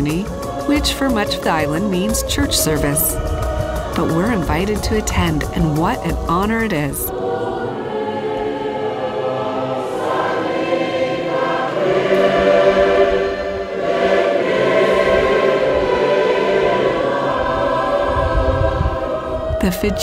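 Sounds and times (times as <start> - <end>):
congregation singing a hymn: 0.0 - 20.0.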